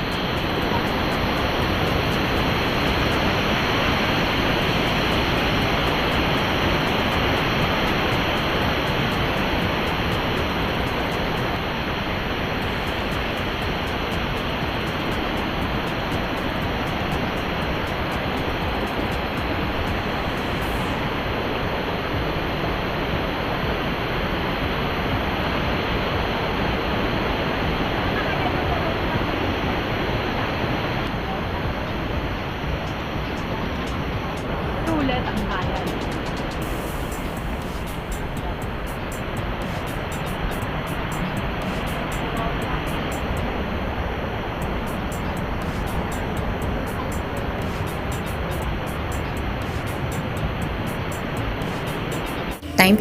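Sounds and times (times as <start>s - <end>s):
water rushing down waterfalls: 0.0s - 52.6s.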